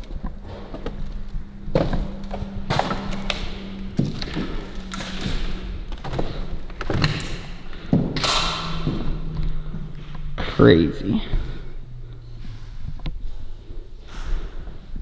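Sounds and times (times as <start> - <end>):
footsteps: 0.0 - 14.8
faint low hum: 0.0 - 15.0.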